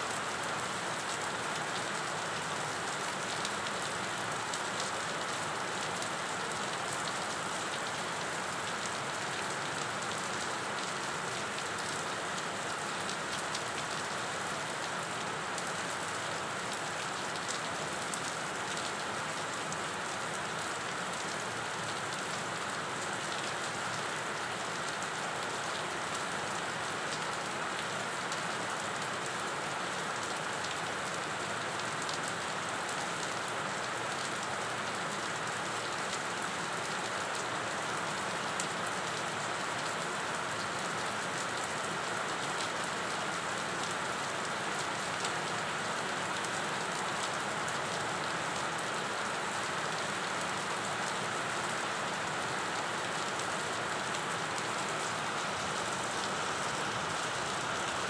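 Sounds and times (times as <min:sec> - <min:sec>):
rain falling on standing water: 0:00.0 - 0:58.0.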